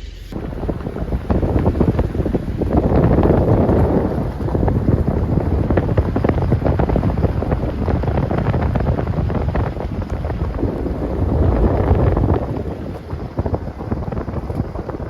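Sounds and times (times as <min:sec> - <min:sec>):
moving car rumble: 0:00.0 - 0:15.0
wind buffeting microphone: 0:00.0 - 0:15.0.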